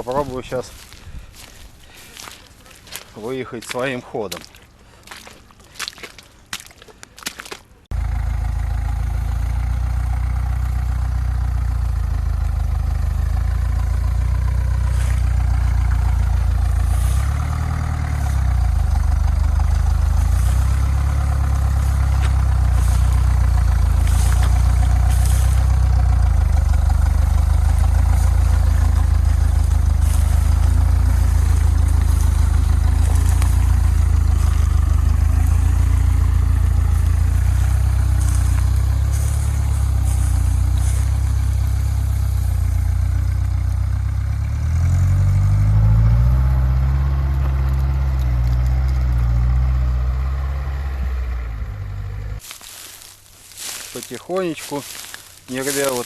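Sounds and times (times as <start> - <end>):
suv engine at low revs: 7.9 - 56.0.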